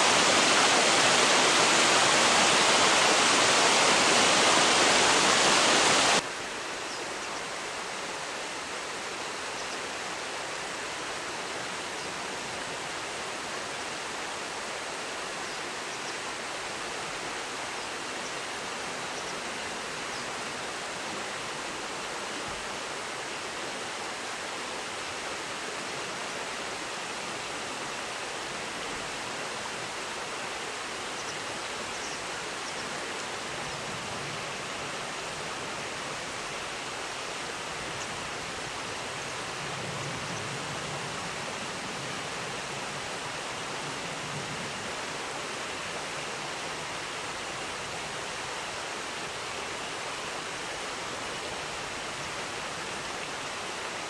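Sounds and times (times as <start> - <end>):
river water rushing over weir: 0.0 - 54.0.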